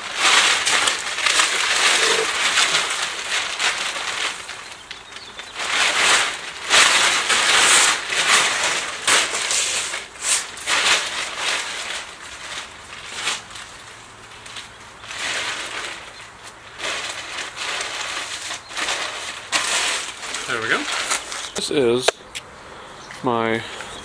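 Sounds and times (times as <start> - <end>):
crunching and rustling: 0.0 - 22.5.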